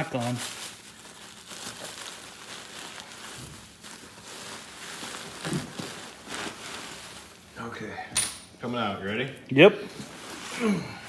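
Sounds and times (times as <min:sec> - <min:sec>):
plastic wrapping rustling: 0:00.0 - 0:07.7, 0:09.0 - 0:11.0.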